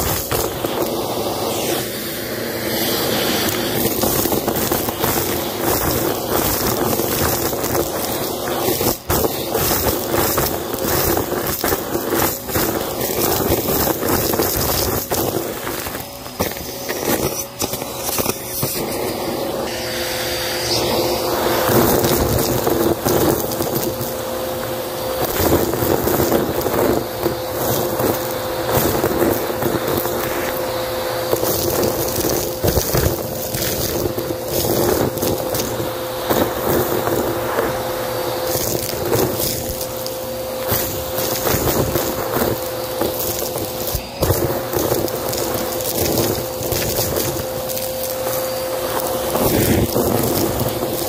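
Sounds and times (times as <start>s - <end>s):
debris rattling up vacuum wand: 0.0s - 51.0s
vacuum cleaner motor whine: 0.0s - 51.0s.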